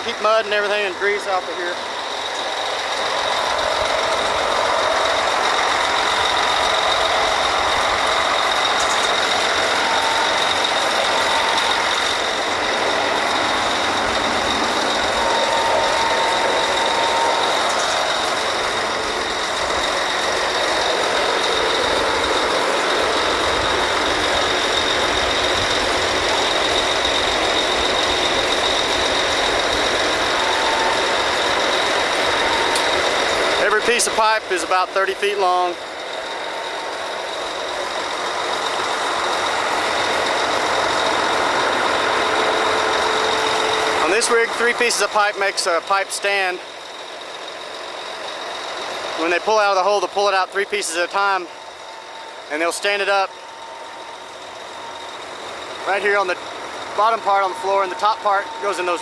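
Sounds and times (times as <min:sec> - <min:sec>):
constant high whine: 0:00.0 - 0:59.0
drilling rig machinery running: 0:00.0 - 0:59.0.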